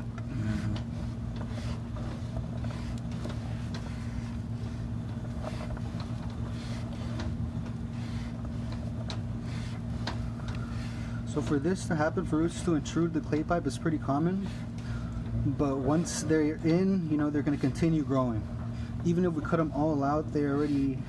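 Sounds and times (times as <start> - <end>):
faint clicks and rustles: 0.0 - 21.0
low machine hum: 0.0 - 21.0.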